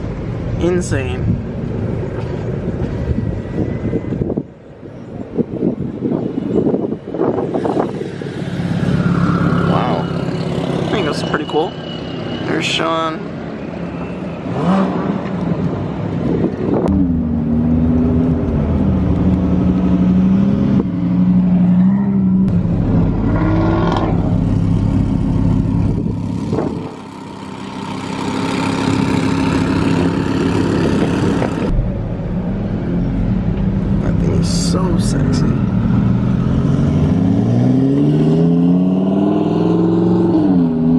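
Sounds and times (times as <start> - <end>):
car engines revving: 5.4 - 40.9.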